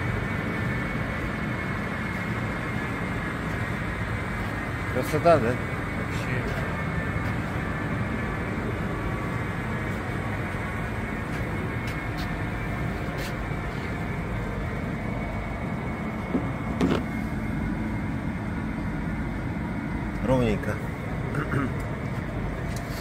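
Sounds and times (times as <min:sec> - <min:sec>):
sawmill machinery humming: 0:00.0 - 0:23.0.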